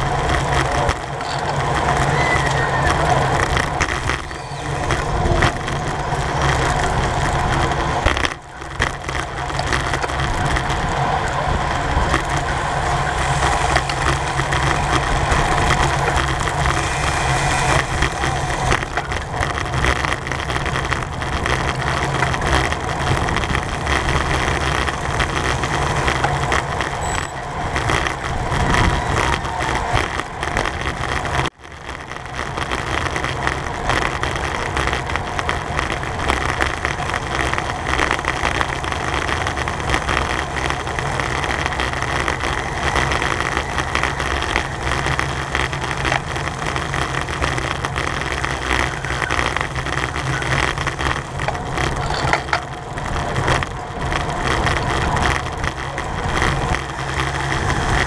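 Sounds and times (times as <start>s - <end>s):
rushing wind and road noise: 0.0s - 58.0s.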